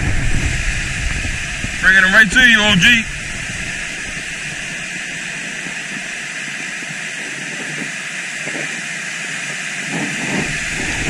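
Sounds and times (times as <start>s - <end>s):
river water rushing over dam: 0.0s - 11.0s.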